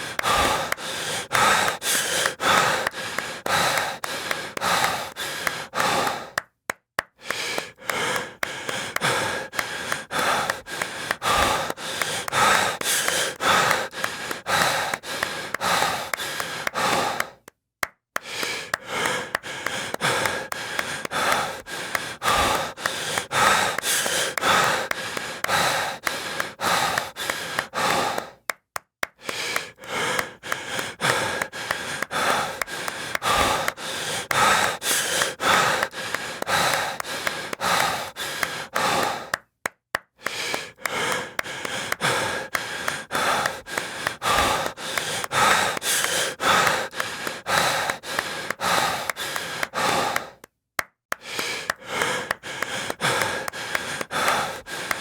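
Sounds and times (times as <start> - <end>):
heavy breathing: 0.0 - 6.5, 7.2 - 17.5, 18.2 - 39.5, 40.2 - 50.5, 51.1 - 55.0
sharp claps: 0.0 - 55.0.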